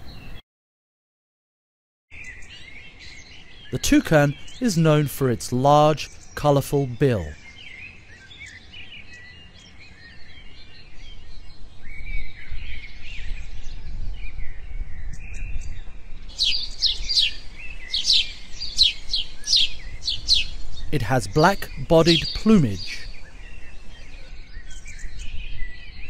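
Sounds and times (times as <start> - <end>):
birds chirping: 0.0 - 0.4, 2.1 - 26.0
background noise: 2.2 - 13.3, 15.6 - 25.4.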